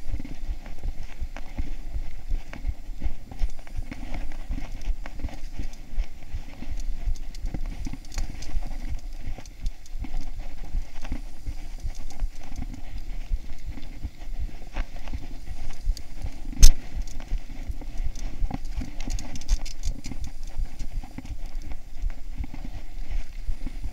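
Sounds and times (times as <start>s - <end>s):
bike rattling over bumps: 2.4s - 23.9s.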